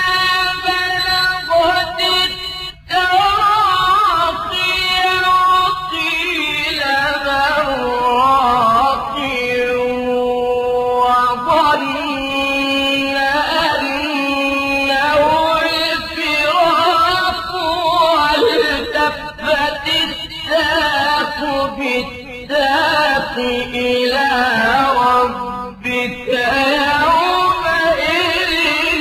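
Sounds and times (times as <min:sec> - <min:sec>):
person reciting melodically: 0:00.0 - 0:29.0.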